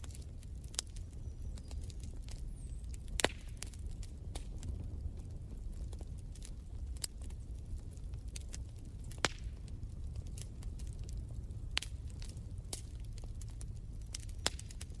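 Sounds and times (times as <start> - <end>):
fire pops and snaps: 0.0 - 15.0
low rumble of burning: 0.0 - 15.0.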